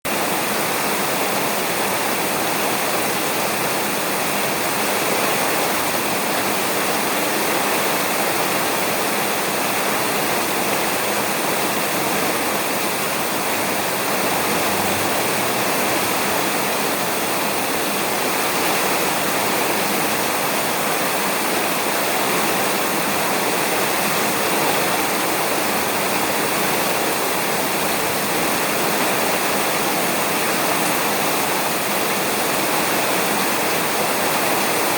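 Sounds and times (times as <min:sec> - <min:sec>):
heavy rain on a roof: 0:00.1 - 0:34.9.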